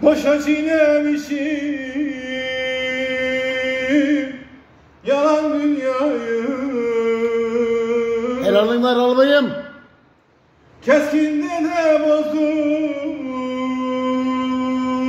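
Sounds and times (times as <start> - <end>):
man singing unaccompanied: 0.0 - 9.7, 10.8 - 15.0.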